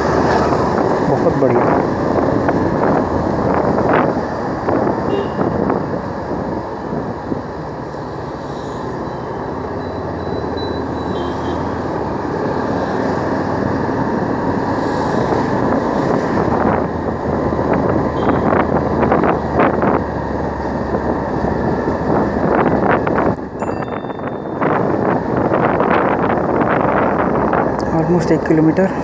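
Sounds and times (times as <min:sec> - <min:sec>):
road and wind rush: 0:00.0 - 0:29.0.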